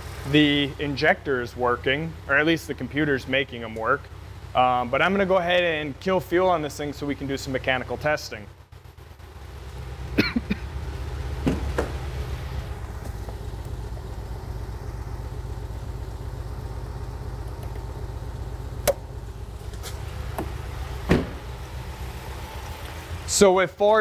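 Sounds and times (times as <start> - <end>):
car engine idling with misfire: 0.0 - 24.0.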